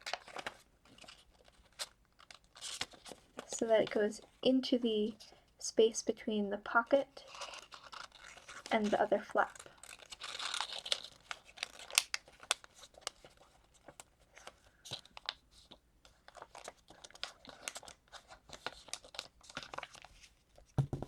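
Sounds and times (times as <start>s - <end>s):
paper crinkling and rustling: 0.0s - 4.0s, 7.2s - 21.0s.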